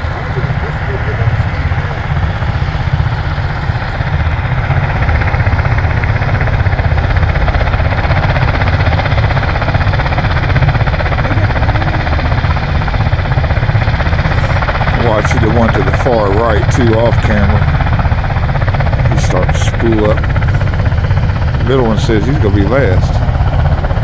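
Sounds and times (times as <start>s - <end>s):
tiltrotor aircraft engines rumbling: 0.0s - 24.0s.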